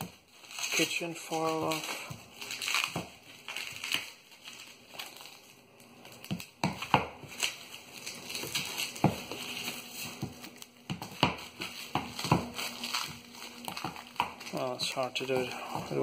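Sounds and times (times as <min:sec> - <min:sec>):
cling film crinkling: 0:00.0 - 0:16.0.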